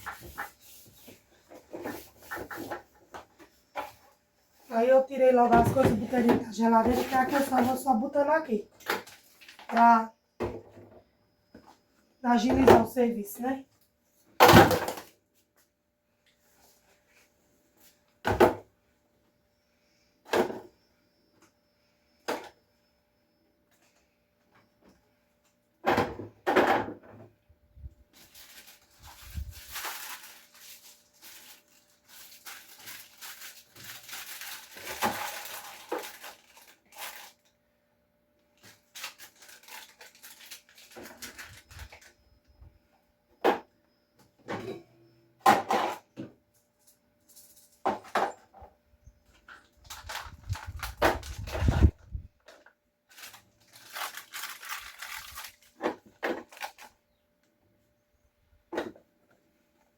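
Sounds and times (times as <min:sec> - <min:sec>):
faint refrigerator hum: 0:00.0 - 0:59.9.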